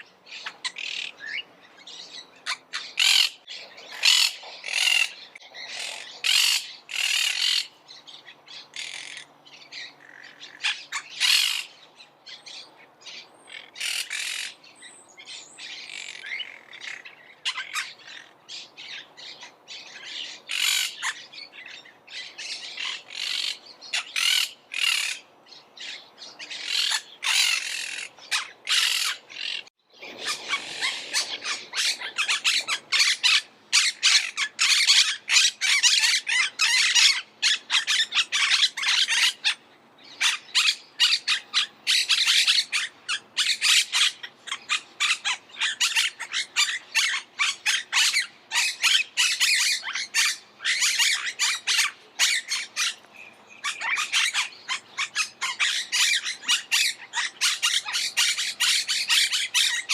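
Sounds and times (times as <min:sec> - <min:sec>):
parakeets squawking: 0:00.3 - 0:07.8, 0:08.5 - 0:11.8, 0:12.5 - 0:14.6, 0:15.6 - 0:25.2, 0:25.8 - 0:59.9.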